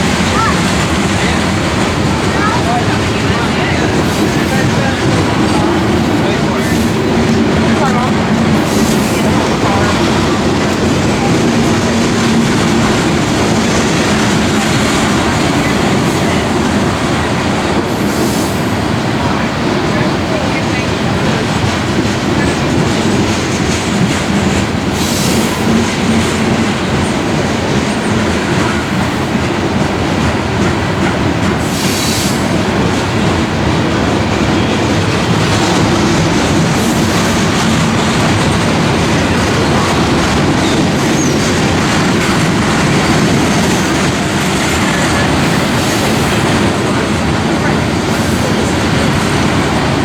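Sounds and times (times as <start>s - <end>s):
freight train rolling past: 0.0s - 50.0s
wheels clacking over rail joints: 0.0s - 50.0s.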